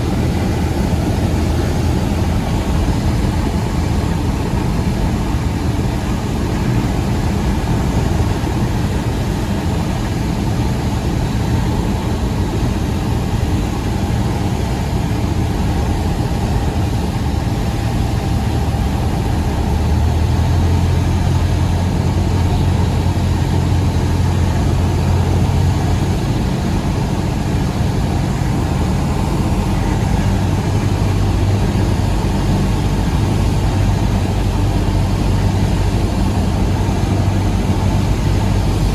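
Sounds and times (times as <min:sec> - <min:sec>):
propeller plane engine running: 0:00.0 - 0:38.9.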